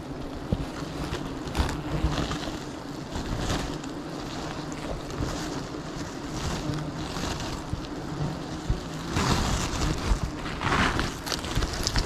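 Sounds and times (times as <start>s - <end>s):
rustling and handling noise: 0.0s - 12.0s.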